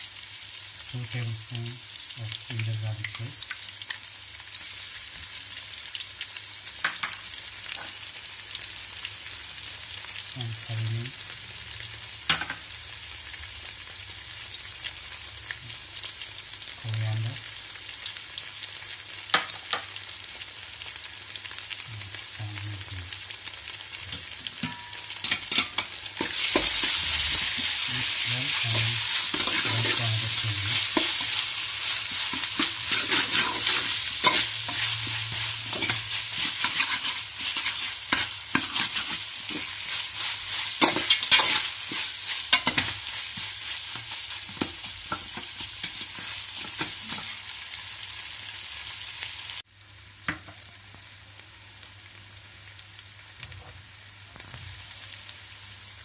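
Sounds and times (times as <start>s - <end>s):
vegetables sizzling in hot oil: 0.0s - 56.0s.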